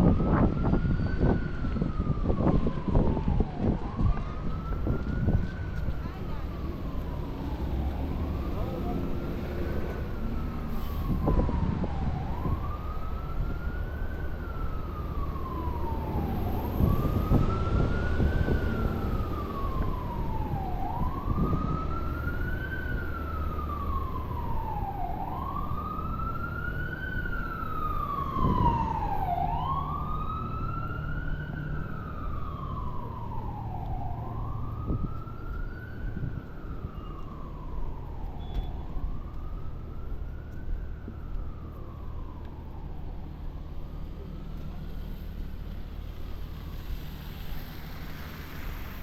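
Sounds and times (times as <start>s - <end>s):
emergency vehicle siren wailing: 0.0s - 49.0s
street traffic rumble: 0.0s - 49.0s.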